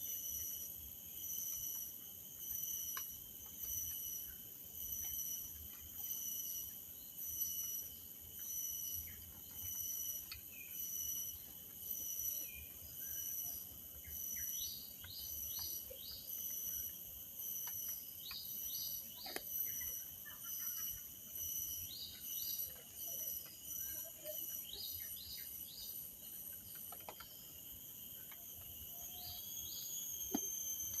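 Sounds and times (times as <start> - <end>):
insects calling: 0.0 - 31.0.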